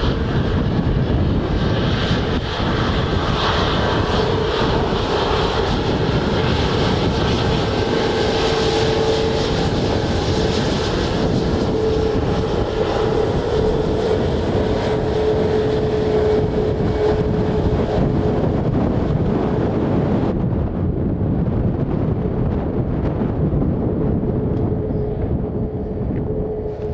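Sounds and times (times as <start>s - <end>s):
jet engine whine: 0.0s - 26.9s
wind on microphone: 0.0s - 26.9s.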